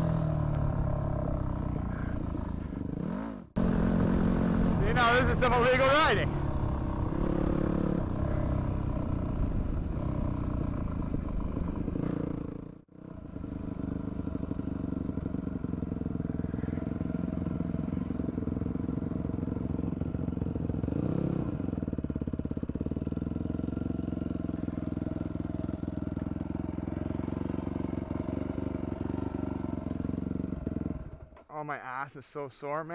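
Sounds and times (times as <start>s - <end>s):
dirt bike engine running: 0.0s - 31.4s.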